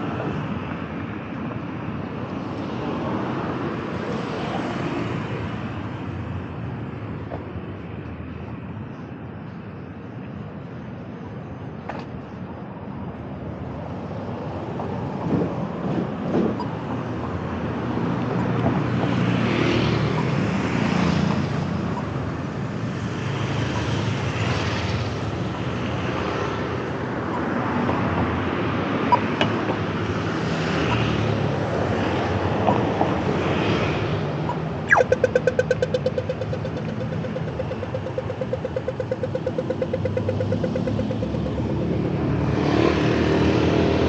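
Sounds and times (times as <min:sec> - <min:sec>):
cars driving by: 0:00.0 - 0:44.0.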